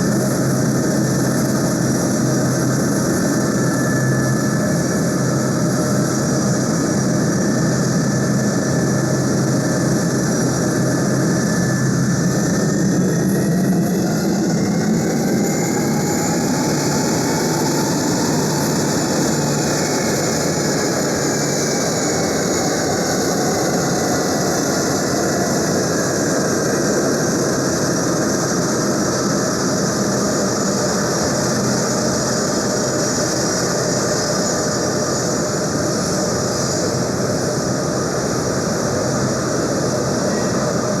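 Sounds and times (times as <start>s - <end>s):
jet engines rushing: 0.0s - 41.0s
steady engine whine: 0.0s - 41.0s.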